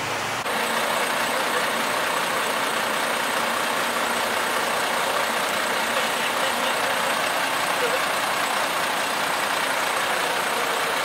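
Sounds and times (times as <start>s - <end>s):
lorry engines idling: 0.0s - 11.0s.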